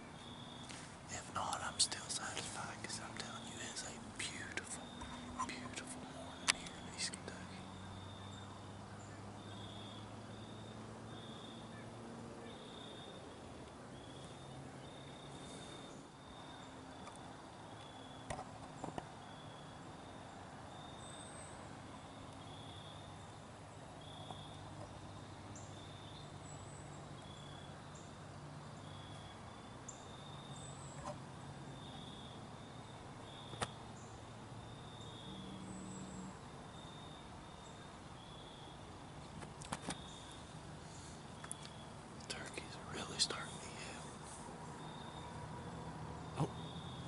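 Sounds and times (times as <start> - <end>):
faint low hum: 0.0 - 47.0
insect chirping: 0.0 - 47.0.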